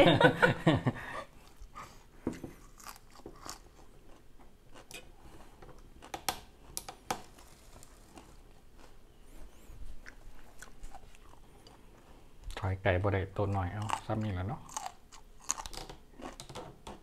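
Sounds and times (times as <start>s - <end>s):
chewing and crunching food: 1.4s - 12.7s, 13.4s - 17.0s.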